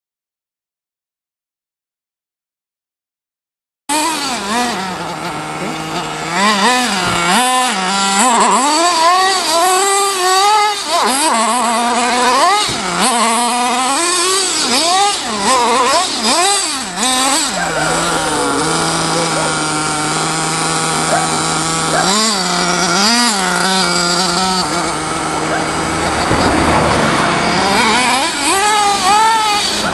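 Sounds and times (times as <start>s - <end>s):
small two-stroke engine revving: 3.9s - 29.9s.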